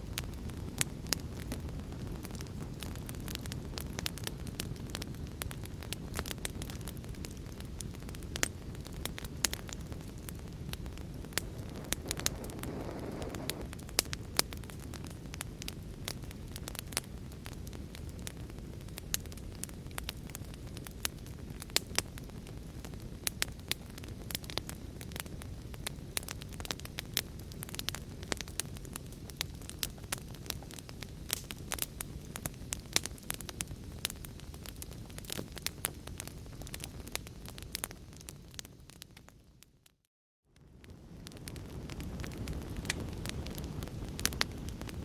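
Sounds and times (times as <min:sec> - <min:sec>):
wood fire crackling: 0:00.0 - 0:40.0, 0:40.6 - 0:45.0.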